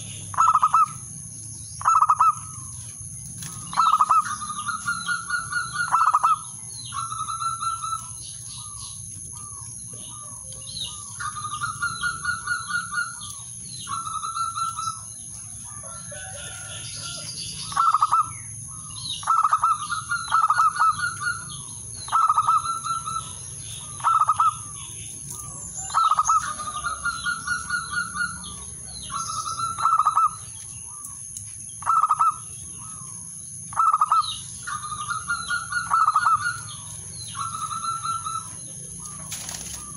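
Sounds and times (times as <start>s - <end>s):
dove cooing: 0.0s - 1.0s, 1.8s - 2.8s, 3.4s - 31.0s, 33.7s - 39.9s.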